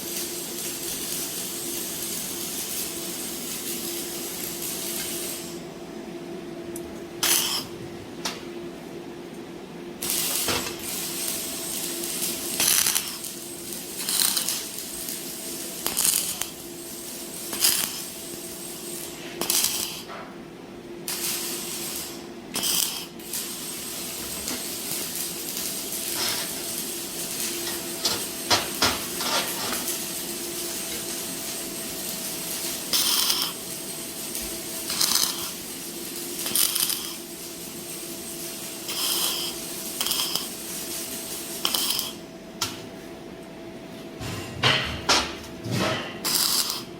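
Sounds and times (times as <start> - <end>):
steady machine hum: 0.0 - 46.9.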